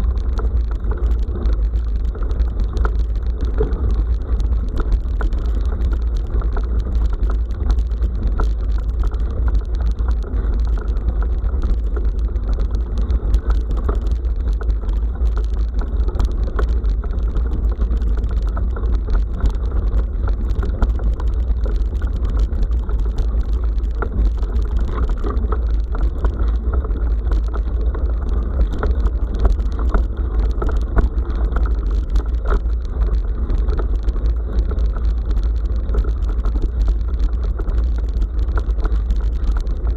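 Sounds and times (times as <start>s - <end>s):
bicycle tyre noise: 0.0s - 39.9s
low wind rumble: 0.0s - 39.9s.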